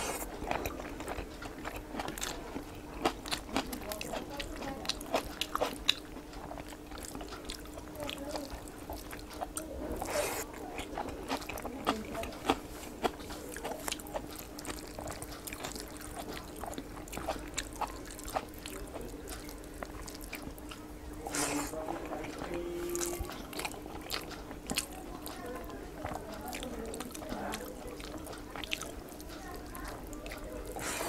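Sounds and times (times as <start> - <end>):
chewing and mouth noises: 0.0 - 31.0
faint steady hum: 0.0 - 31.0.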